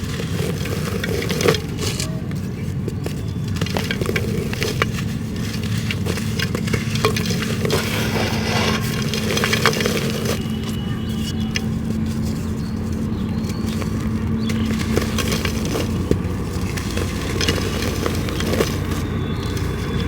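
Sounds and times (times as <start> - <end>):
dirt crumbling by hand: 0.0 - 20.0.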